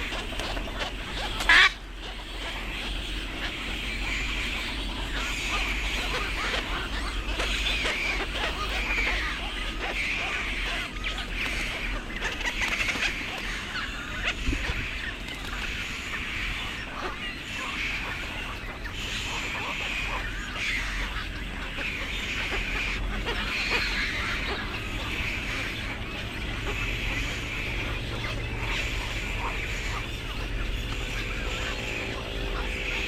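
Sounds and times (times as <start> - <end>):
many birds calling: 0.0 - 33.0.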